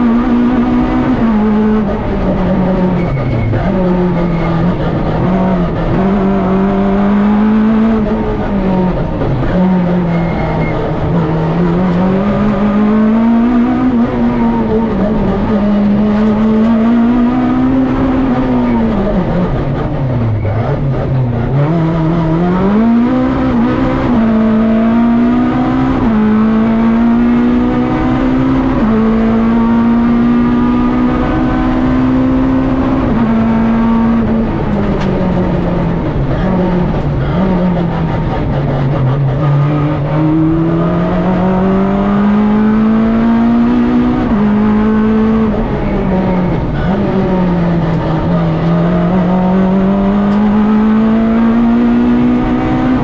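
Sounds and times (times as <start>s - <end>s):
rally car engine under hard driving: 0.0s - 53.0s.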